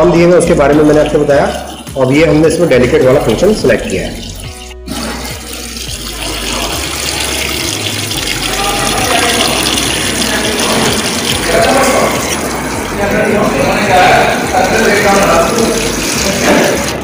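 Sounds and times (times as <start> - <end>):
water rushing into washing machine: 0.0 - 17.0.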